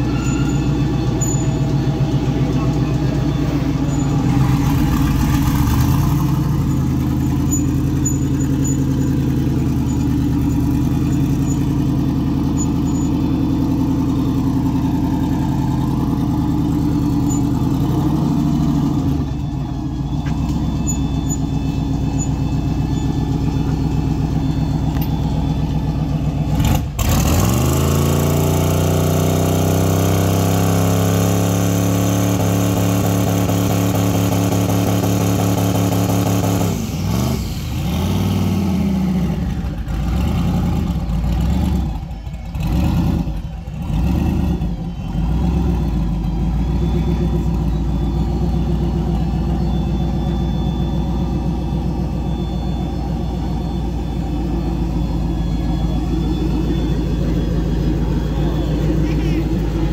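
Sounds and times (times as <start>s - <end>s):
turbocharged engine revving: 0.0s - 59.9s.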